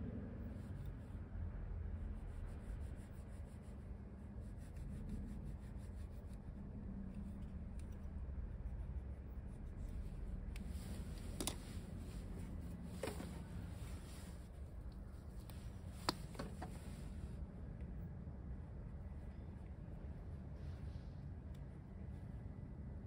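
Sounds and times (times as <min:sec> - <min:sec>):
low background rumble: 0:00.0 - 0:23.0.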